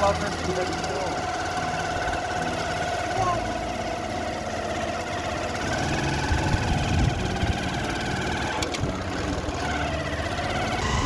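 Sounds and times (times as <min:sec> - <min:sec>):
low road rumble: 0:00.0 - 0:11.0
motorcycle engine running: 0:00.0 - 0:11.0.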